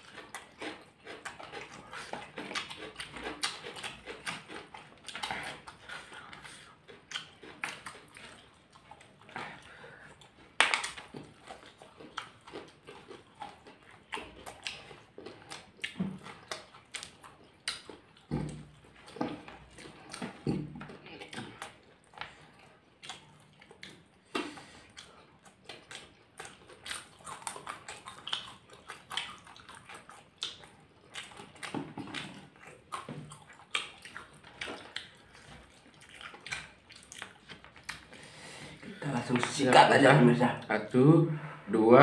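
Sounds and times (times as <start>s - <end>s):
wet lip smacks and mouth clicks: 0.0s - 38.2s
people chewing open-mouthed: 0.0s - 41.6s.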